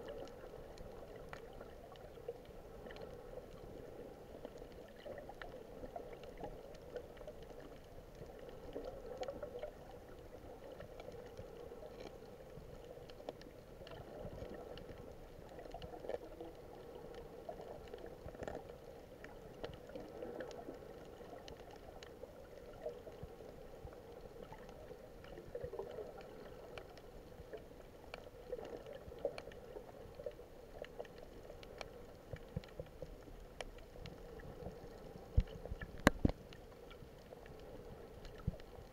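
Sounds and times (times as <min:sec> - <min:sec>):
faint scattered clicks: 0:00.0 - 0:38.9
underwater water murmur: 0:00.0 - 0:38.9.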